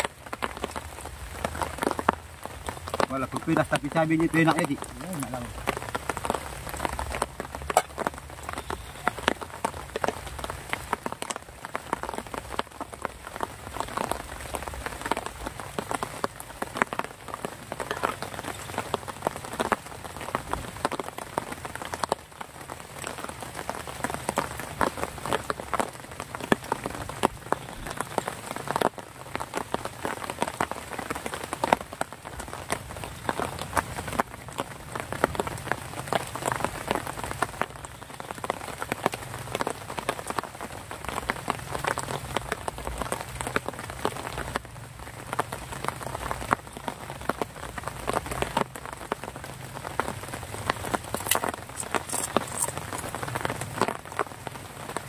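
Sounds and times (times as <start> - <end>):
continuous rain hiss: 0.0 - 55.0
rain drops ticking on surface: 0.0 - 55.0.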